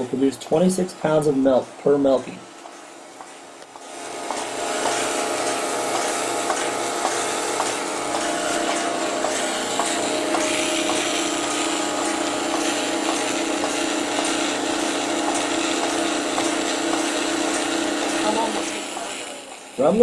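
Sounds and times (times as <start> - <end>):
pulsator clicking: 3.6 - 19.8
milking machine vacuum hiss: 3.8 - 20.0.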